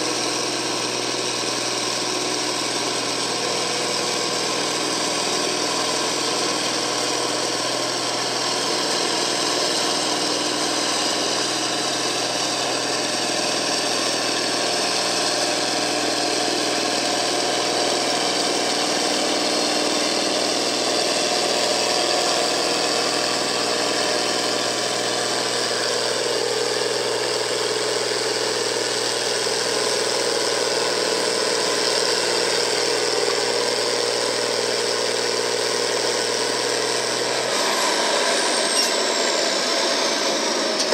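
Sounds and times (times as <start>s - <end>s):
tractor engine running hard: 0.0s - 40.9s.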